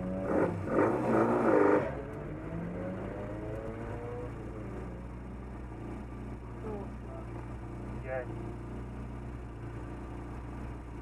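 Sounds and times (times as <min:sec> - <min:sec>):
car engine idling: 0:01.9 - 0:11.0.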